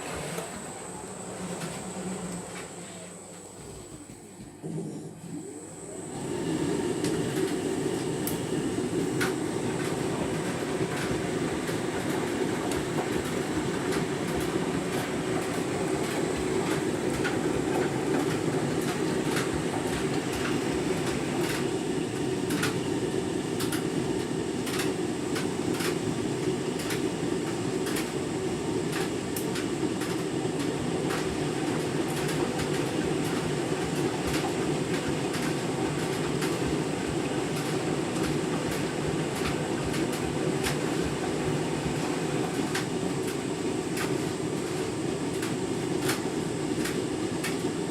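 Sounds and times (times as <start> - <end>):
washing machine rumble: 0.0 - 47.9.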